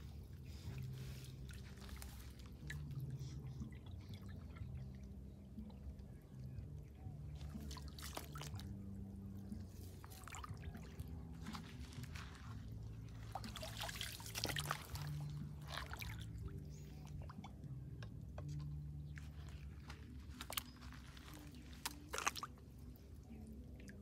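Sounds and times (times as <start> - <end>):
shallow water splashing: 0.0 - 6.4, 7.3 - 17.6, 18.5 - 24.0
low steady hum: 0.0 - 24.0.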